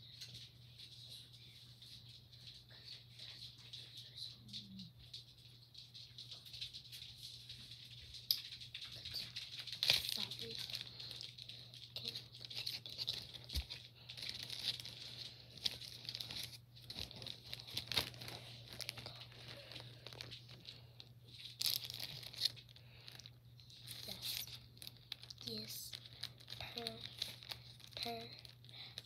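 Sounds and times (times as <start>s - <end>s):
plastic bag crinkling: 5.1s - 29.0s.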